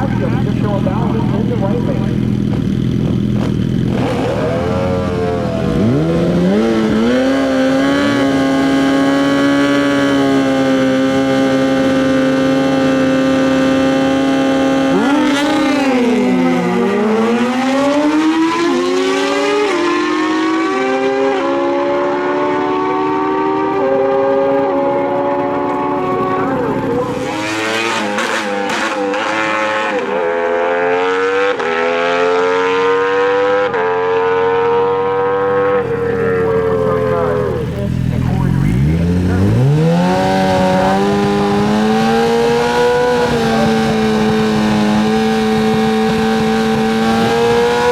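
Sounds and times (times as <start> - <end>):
sportbike engines revving high: 0.0 - 47.9.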